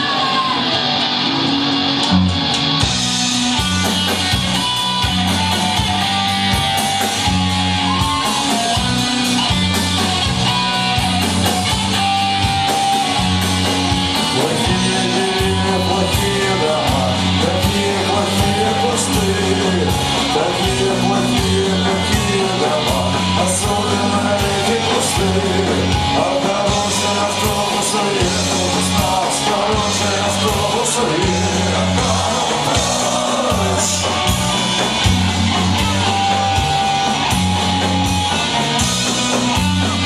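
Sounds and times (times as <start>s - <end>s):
rock band playing: 0.0s - 40.0s
drum beat: 2.8s - 40.0s.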